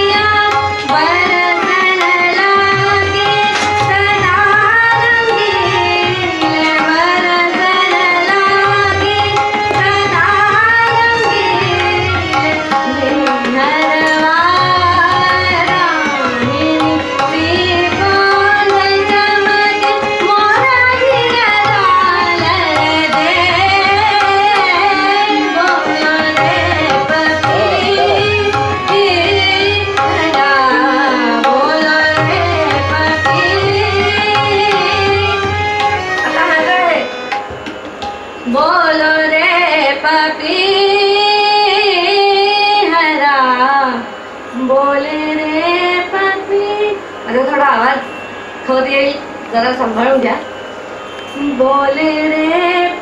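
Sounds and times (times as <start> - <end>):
woman singing: 0.0 - 36.7, 38.4 - 48.0, 51.4 - 53.0
tabla playing rhythm: 0.0 - 46.4, 47.0 - 53.0.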